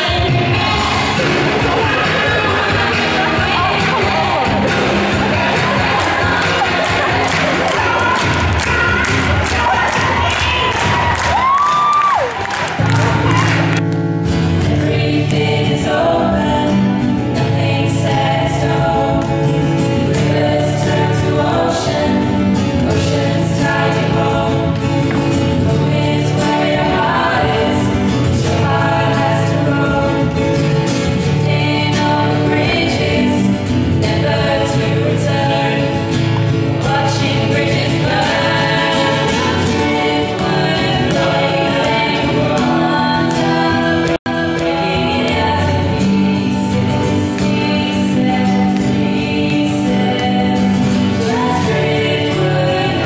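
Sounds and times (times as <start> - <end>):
strummed acoustic guitar: 0.0 - 10.2, 12.8 - 53.0
young voices singing together: 0.0 - 13.8, 14.6 - 53.0.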